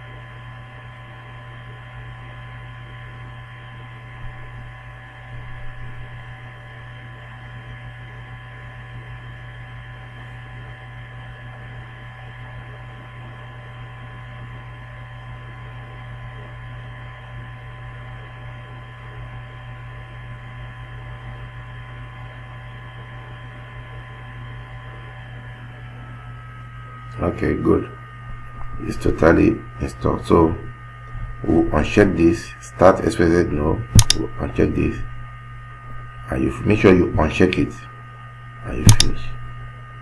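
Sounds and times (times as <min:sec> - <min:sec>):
electrical hum: 0:00.0 - 0:40.0
faint steady whines: 0:00.0 - 0:40.0.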